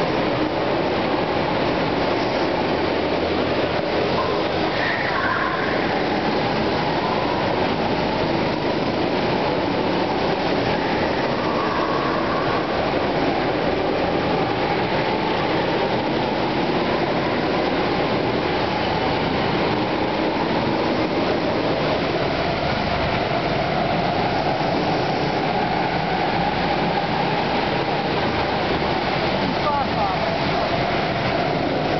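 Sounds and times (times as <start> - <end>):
go-kart engines droning: 0.0 - 31.9.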